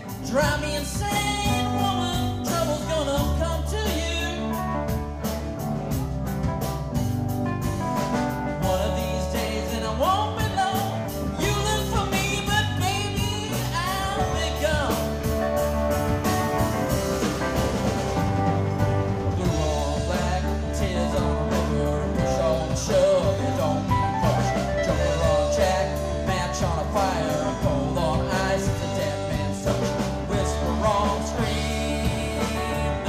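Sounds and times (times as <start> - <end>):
blues-rock band playing: 0.0 - 33.0.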